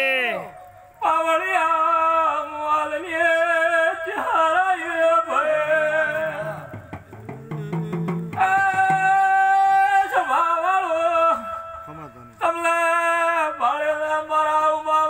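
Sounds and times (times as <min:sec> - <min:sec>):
lower voice singing: 0:00.0 - 0:15.0
man singing folk song: 0:00.0 - 0:15.0.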